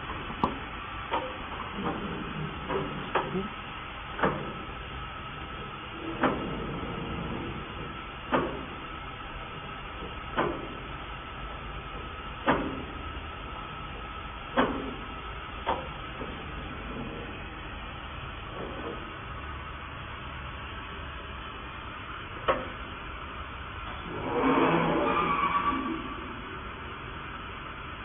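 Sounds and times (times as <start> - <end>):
machine mechanical hum: 0.0 - 28.0.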